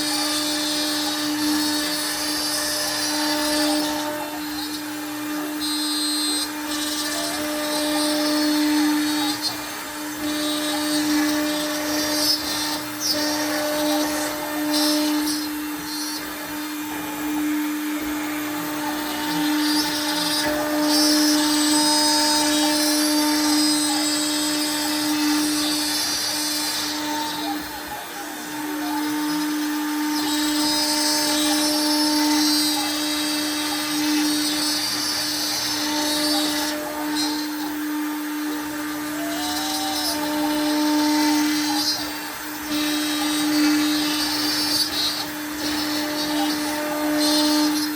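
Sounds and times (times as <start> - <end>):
router whining while milling wood: 0.0 - 47.9.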